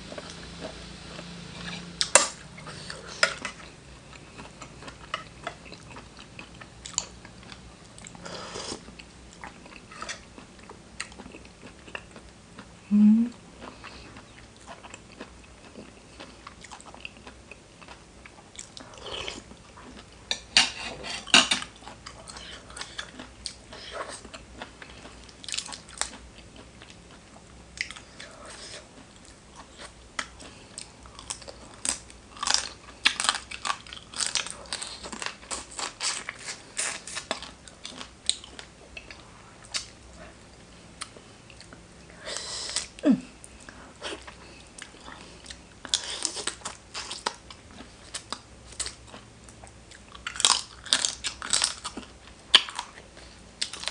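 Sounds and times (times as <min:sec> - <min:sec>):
chewing crunchy food: 0:00.0 - 0:12.8, 0:13.5 - 0:53.9.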